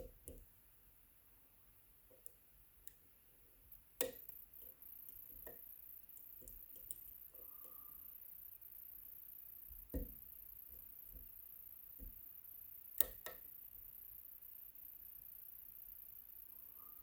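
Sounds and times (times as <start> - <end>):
faint high hiss: 0.0 - 17.0.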